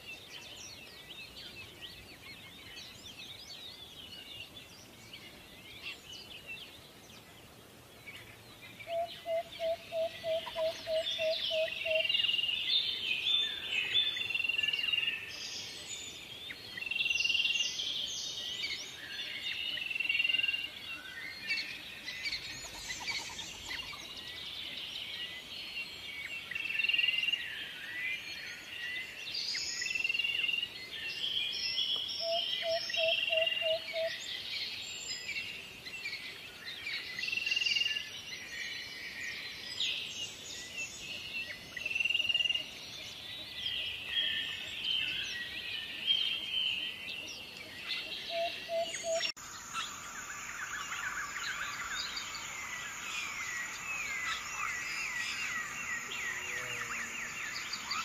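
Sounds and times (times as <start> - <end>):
birds chirping and singing: 0.0 - 58.0
low evenly spaced bird notes: 0.0 - 58.0.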